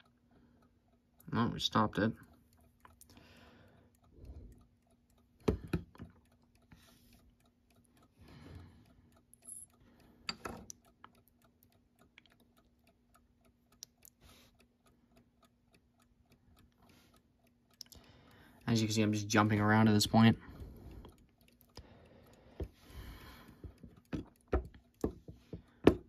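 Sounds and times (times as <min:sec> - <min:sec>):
clock ticking faintly: 0:00.0 - 0:26.0.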